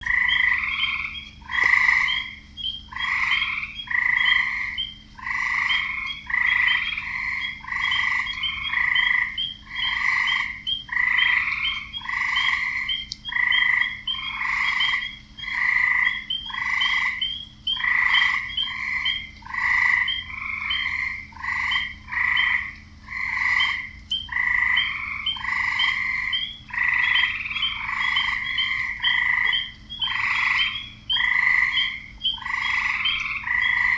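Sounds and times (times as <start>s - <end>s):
frogs croaking: 0.0s - 33.9s.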